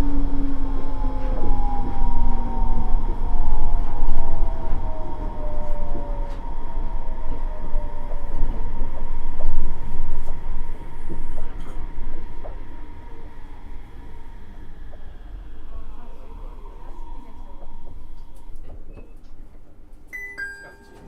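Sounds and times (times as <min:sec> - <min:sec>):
train low rumble: 0:00.0 - 0:20.9.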